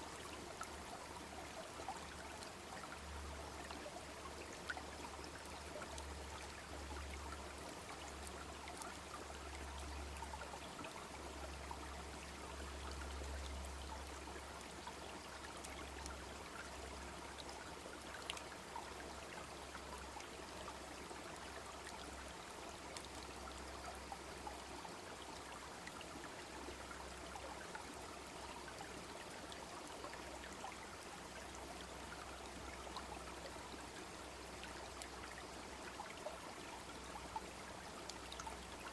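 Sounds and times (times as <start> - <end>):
babbling brook: 0.0 - 38.9.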